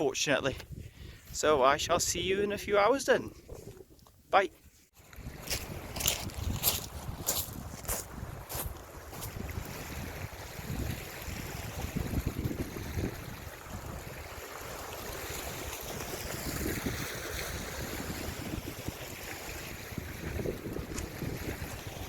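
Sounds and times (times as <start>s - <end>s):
wind buffeting microphone: 0.6s - 4.1s, 5.1s - 22.0s.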